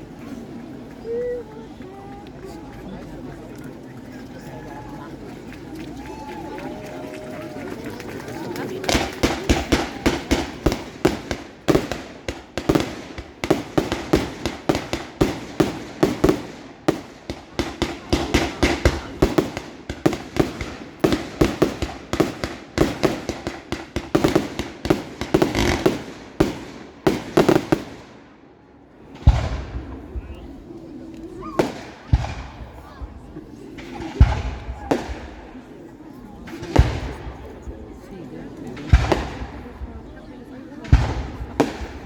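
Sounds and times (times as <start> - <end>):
fireworks bangs and crackles: 5.6 - 42.0.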